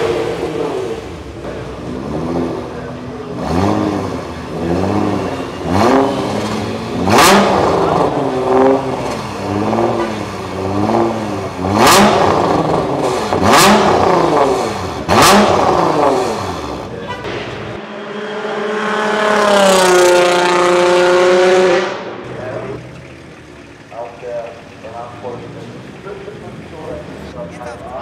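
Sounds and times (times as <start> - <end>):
car engine revving: 0.0 - 27.5.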